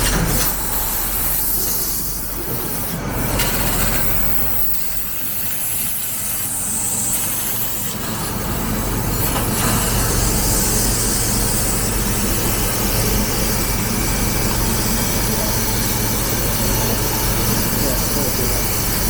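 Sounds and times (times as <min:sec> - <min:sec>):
laser cutter hissing: 0:00.0 - 0:19.0
low machine hum: 0:00.0 - 0:19.0.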